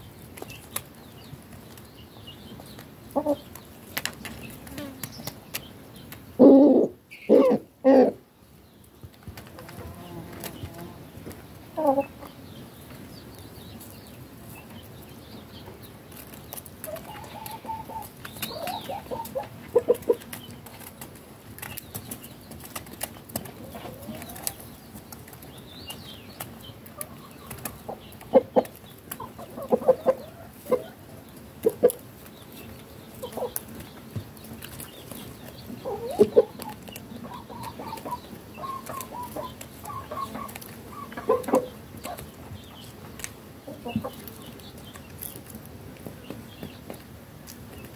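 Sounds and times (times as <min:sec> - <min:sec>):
beaks pecking on hard ground: 0:00.0 - 0:07.6, 0:08.6 - 0:47.9
chickens clucking: 0:00.0 - 0:47.9.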